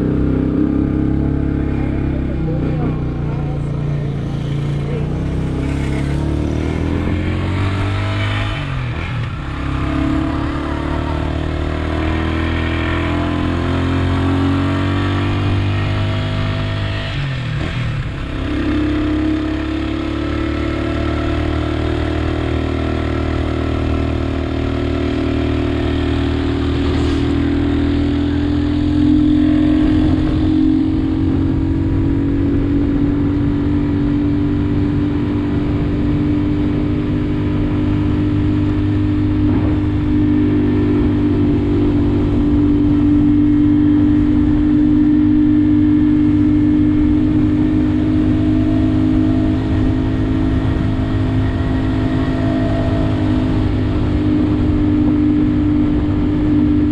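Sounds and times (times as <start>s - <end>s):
motorbike engine running: 0.0s - 11.5s, 14.0s - 56.9s.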